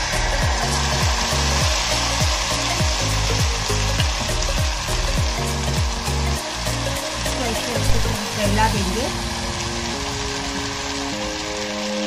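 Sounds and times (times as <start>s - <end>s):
background music with deep beat: 0.0s - 12.0s
batter sizzling on hot griddle: 0.0s - 12.0s.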